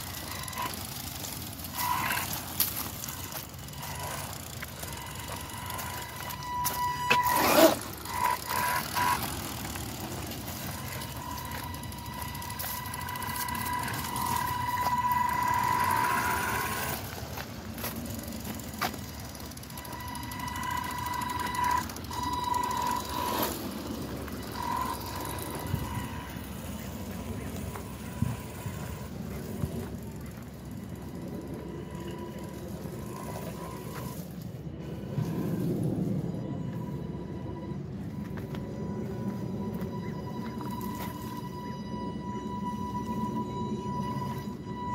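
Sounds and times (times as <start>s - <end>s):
electric motor whine: 0.0s - 44.9s
motor throttle blips: 0.0s - 44.9s.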